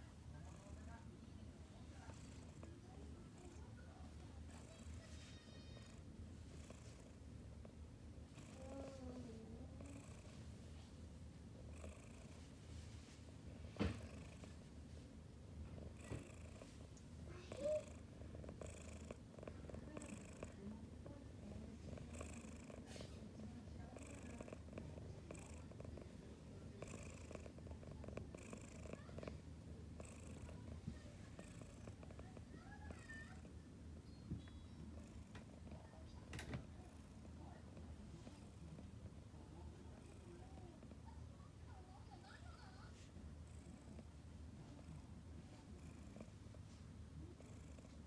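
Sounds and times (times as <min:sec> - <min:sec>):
cat purring: 0:00.0 - 0:48.0.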